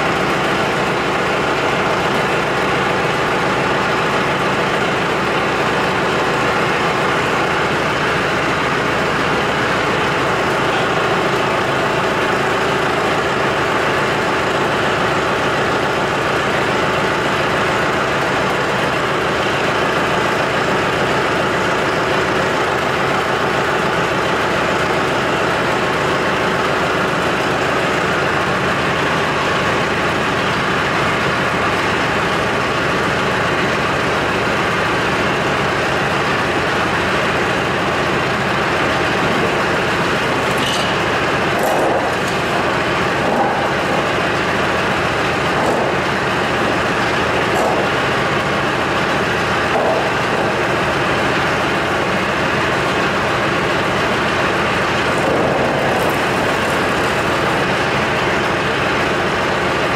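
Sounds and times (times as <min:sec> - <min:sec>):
tractor engine running steadily: 0:00.0 - 0:59.9.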